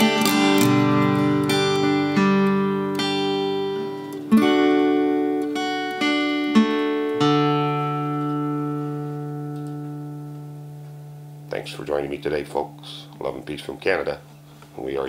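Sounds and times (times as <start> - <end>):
acoustic guitar plucked notes and chords: 0.0 - 13.3.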